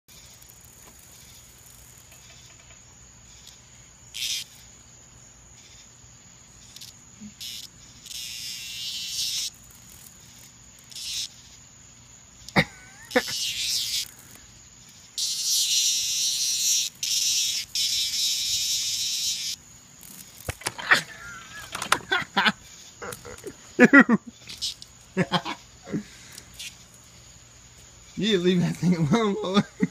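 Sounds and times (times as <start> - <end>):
cicada buzzing distress call: 0.1 - 29.9.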